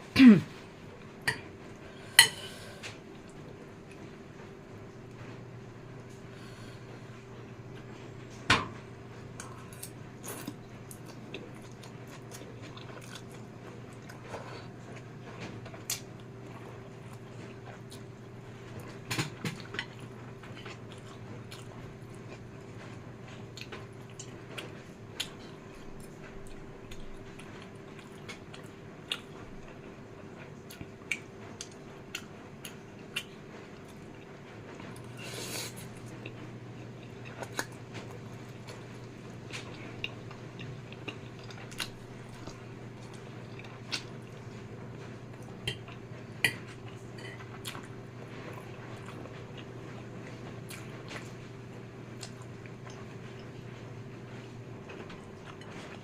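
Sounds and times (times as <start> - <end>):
steady low hum: 0.0 - 56.0
person chewing noodles: 9.2 - 56.0.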